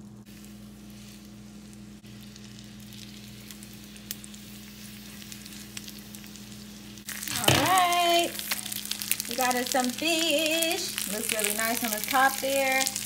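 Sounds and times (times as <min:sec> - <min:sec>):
fish sizzling in frying pan: 0:00.2 - 0:13.0
oil popping and crackling: 0:01.7 - 0:13.0.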